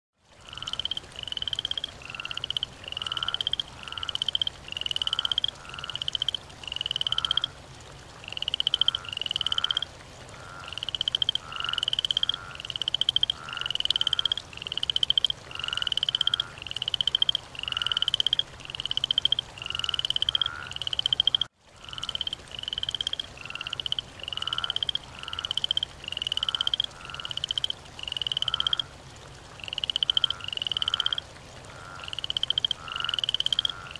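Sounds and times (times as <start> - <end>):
frog croaking: 0.3 - 7.6, 8.2 - 33.9.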